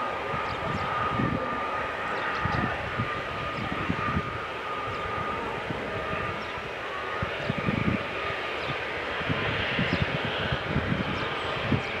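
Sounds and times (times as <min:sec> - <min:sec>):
jet engines at low power: 0:00.0 - 0:12.0
wind buffeting microphone: 0:00.0 - 0:12.0.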